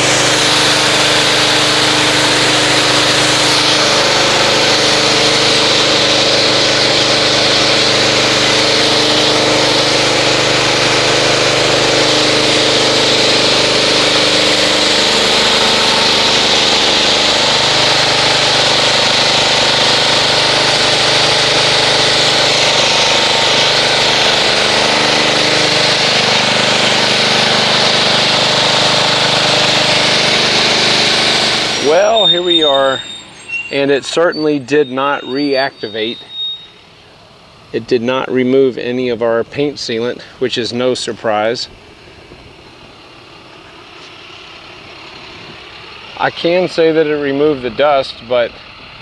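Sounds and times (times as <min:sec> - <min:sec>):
water spray hissing: 0:00.0 - 0:48.7
pressure washer motor humming: 0:00.0 - 0:49.0.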